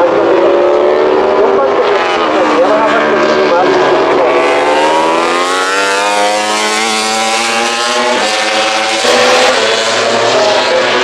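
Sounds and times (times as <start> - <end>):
race motorcycle engines revving: 0.0 - 11.0.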